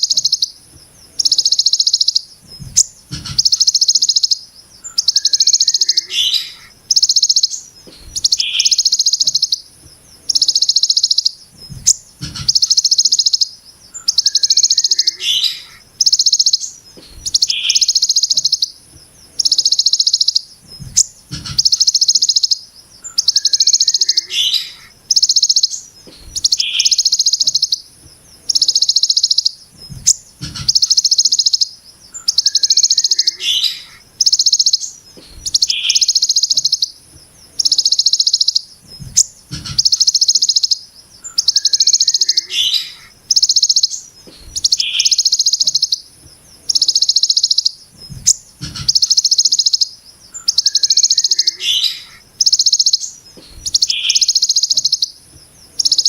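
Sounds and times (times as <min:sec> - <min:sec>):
songbird harsh pulsed buzz: 0:00.0 - 0:56.0.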